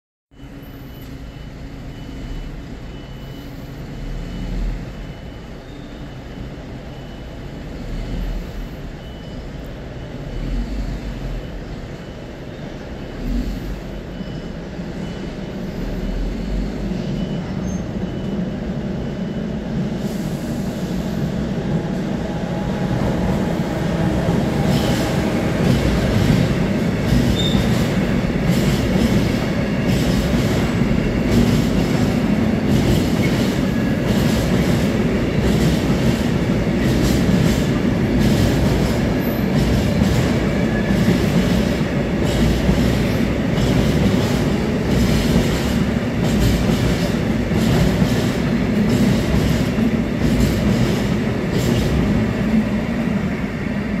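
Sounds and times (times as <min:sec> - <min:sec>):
train wheels rumbling on rails: 0:00.4 - 0:54.0.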